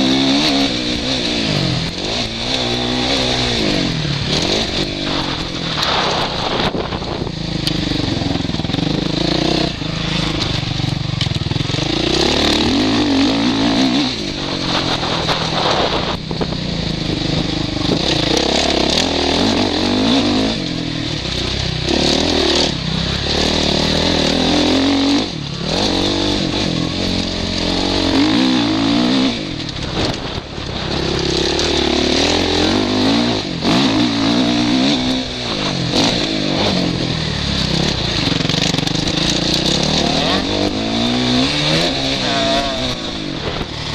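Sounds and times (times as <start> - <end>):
motocross engine revving: 0.0 - 43.9.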